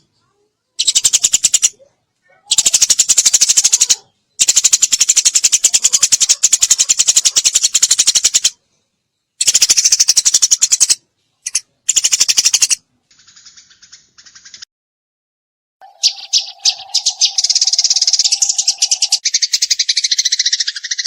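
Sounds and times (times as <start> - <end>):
sparrow rattling chatter: 0.0 - 8.6, 9.4 - 14.7, 15.8 - 21.0.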